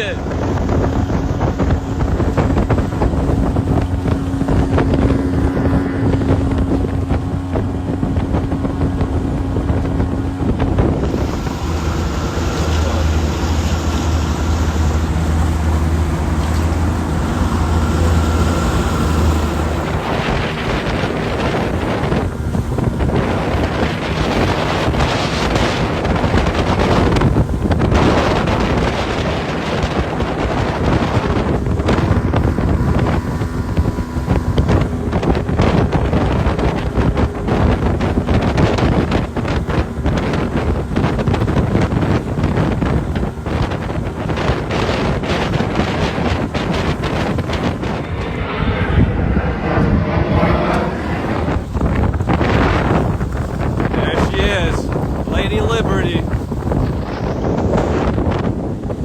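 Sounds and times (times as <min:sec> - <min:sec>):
outboard engine running: 0:00.0 - 0:49.9, 0:51.0 - 0:59.0
water noise: 0:00.0 - 0:59.0
wind buffeting microphone: 0:00.0 - 0:59.0.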